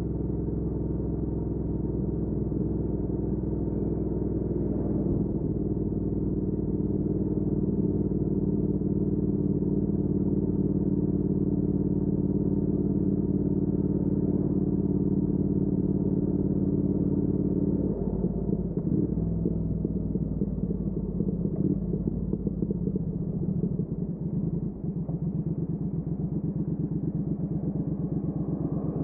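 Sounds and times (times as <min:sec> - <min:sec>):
motorcycle engine at cruising revs: 0:00.0 - 0:29.0.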